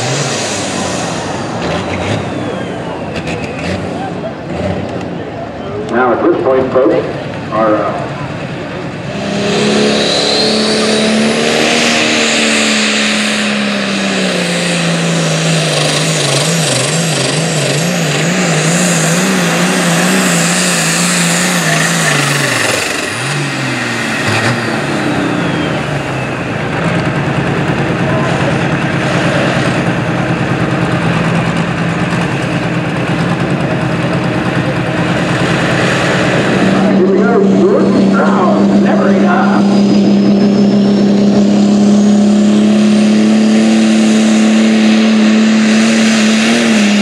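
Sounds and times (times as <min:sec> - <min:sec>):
tractor diesel engine at full power: 0:00.0 - 0:47.0.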